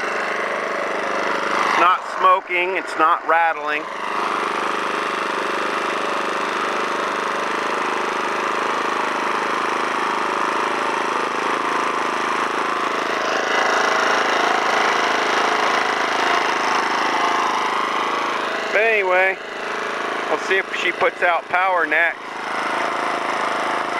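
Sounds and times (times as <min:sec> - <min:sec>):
generator engine running: 0:00.0 - 0:23.9.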